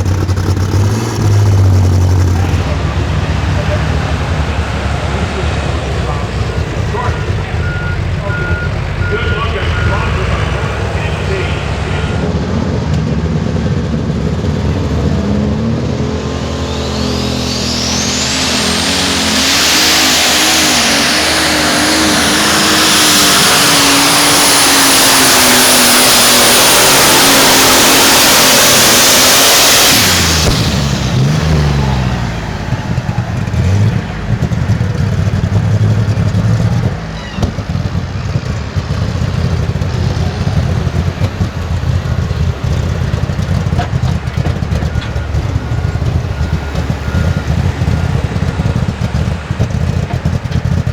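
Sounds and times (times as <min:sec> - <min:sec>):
turbo whine: 0:00.0 - 0:12.3, 0:16.0 - 0:50.9
engine throttle blips: 0:00.0 - 0:50.9
turbocharged engine at full power: 0:00.0 - 0:50.9.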